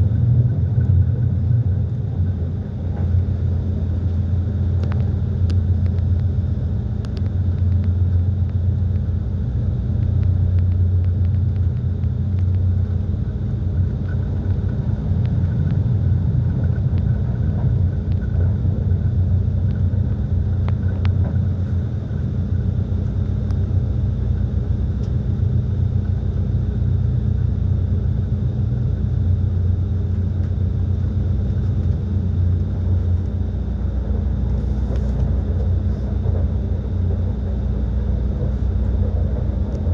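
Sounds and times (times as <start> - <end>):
train wheels rumbling on rails: 0.0 - 29.2, 30.0 - 39.9.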